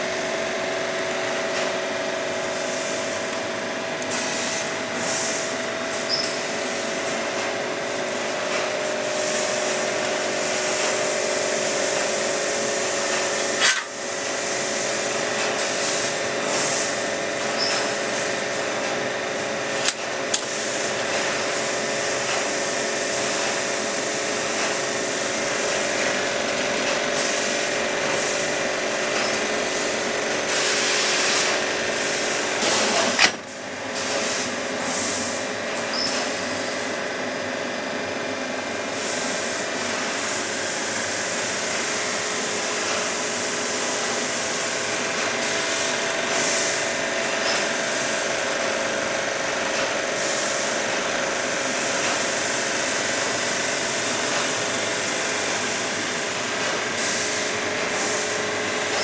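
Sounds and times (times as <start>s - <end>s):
industrial machinery drone: 0.0s - 59.0s.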